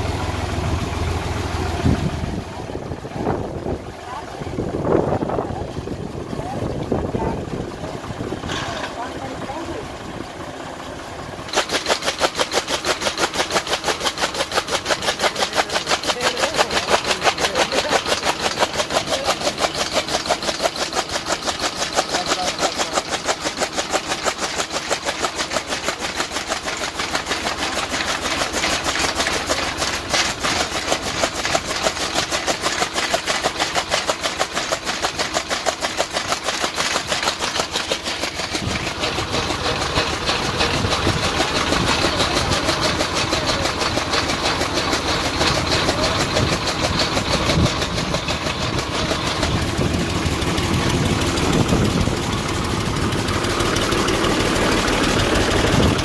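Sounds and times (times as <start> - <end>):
chaff cutter blades clacking: 0.0 - 56.0.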